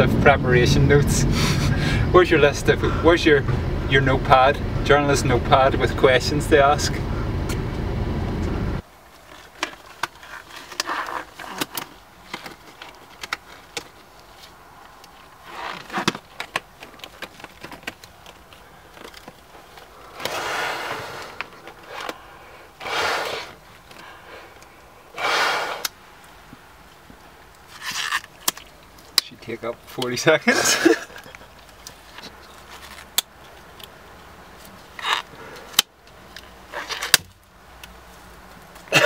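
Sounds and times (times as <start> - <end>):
vehicle rumble: 0.0 - 39.0.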